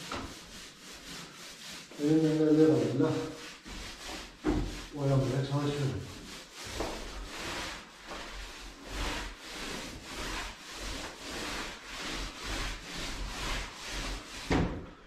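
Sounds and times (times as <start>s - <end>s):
paint roller rubbing on wall: 0.0s - 15.0s.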